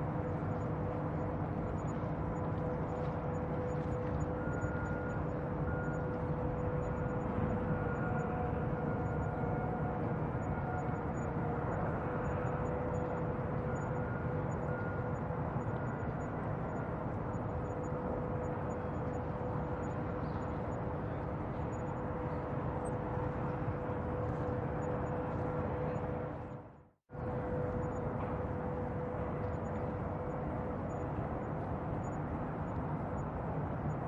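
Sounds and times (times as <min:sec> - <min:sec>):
constant hum: 0:00.0 - 0:34.0.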